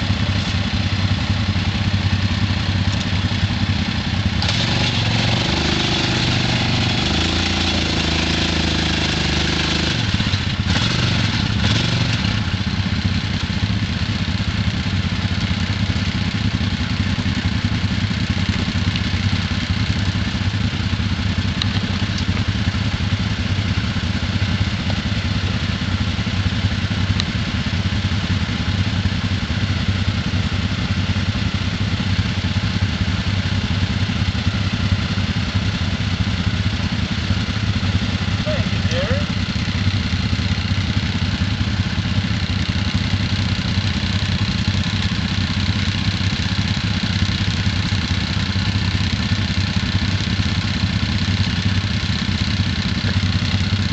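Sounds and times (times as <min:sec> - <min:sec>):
atv engines idling: 0:00.0 - 0:53.9.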